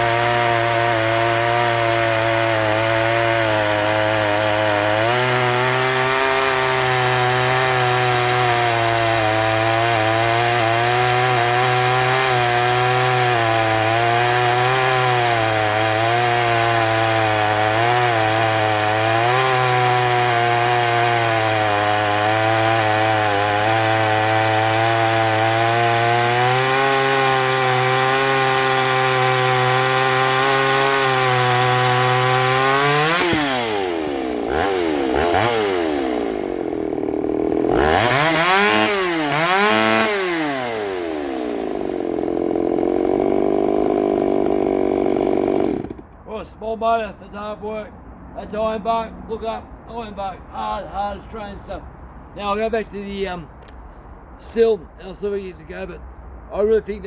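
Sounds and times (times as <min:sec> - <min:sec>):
chainsaw cutting wood: 0:00.0 - 0:46.2.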